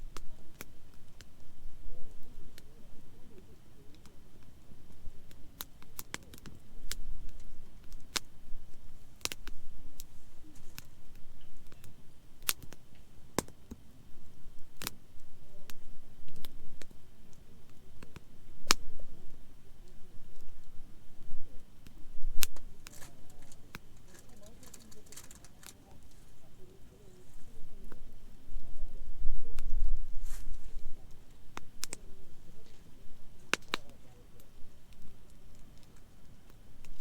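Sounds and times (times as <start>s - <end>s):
campfire crackling: 0.0s - 37.0s
fire popping and snapping: 0.0s - 37.0s.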